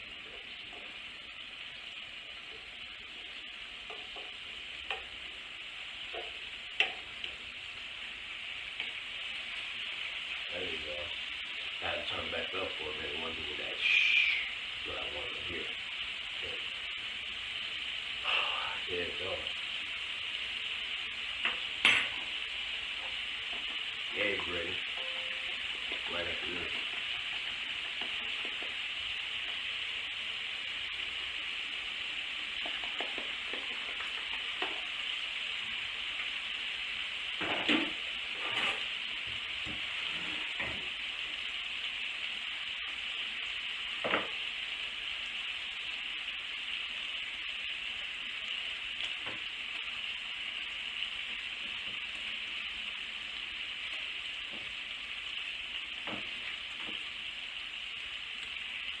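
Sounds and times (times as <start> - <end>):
bacon sizzling in pan: 0.0 - 59.0.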